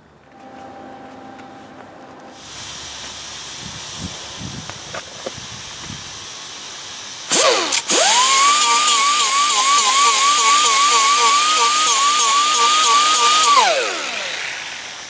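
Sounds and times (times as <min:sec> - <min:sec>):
power tool high whine: 0:02.3 - 0:15.0.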